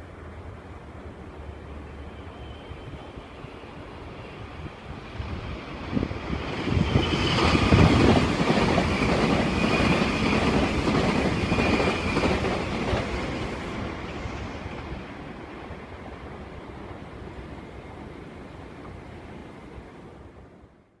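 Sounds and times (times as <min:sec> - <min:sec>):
high train whine: 0:00.0 - 0:21.0.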